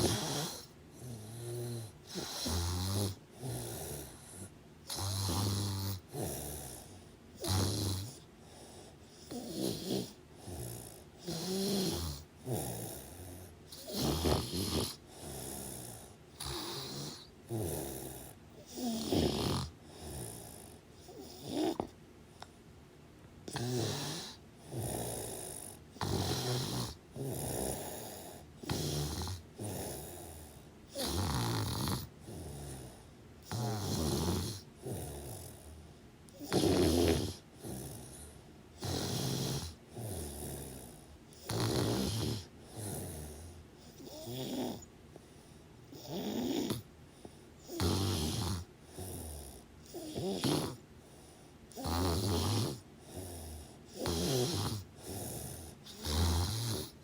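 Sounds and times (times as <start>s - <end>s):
loud rasping snoring: 0.0s - 21.9s, 23.5s - 35.8s, 36.4s - 44.9s, 45.9s - 46.9s, 47.6s - 50.8s, 51.7s - 57.0s
quiet breaths: 0.0s - 57.0s.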